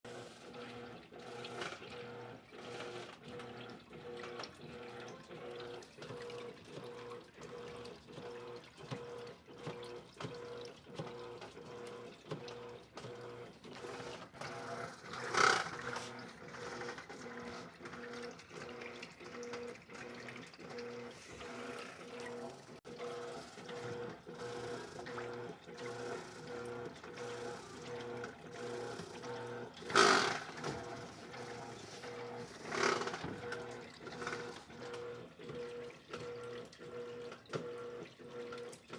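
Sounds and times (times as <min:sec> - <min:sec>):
washing machine motor hum: 0:00.1 - 0:38.9.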